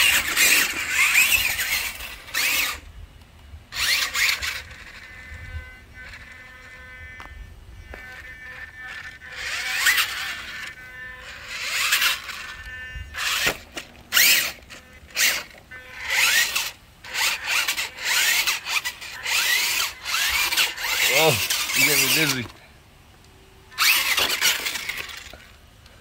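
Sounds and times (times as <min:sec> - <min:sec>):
electric motors whining: 0:00.0 - 0:22.6, 0:23.6 - 0:26.0.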